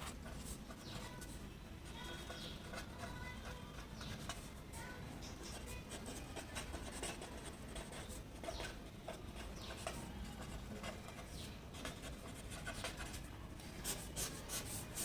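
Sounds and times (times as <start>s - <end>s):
pen scratching on paper: 0.0s - 4.7s, 5.3s - 15.0s.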